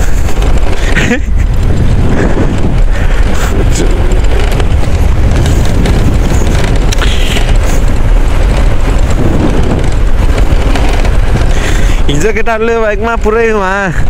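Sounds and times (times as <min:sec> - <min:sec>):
motorcycle engine rumble: 0:00.0 - 0:14.0
wind buffeting microphone: 0:00.0 - 0:14.0.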